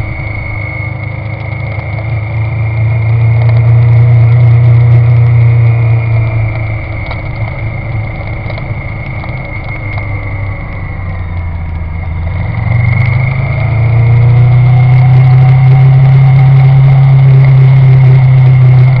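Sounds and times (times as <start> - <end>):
engine running with high whine: 0.0 - 19.0.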